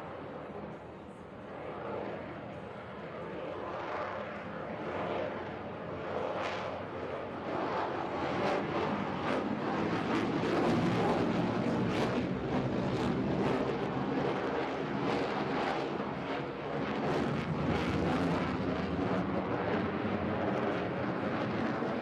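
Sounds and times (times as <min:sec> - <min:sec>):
jet engine roar with crackles: 0:00.0 - 0:22.0.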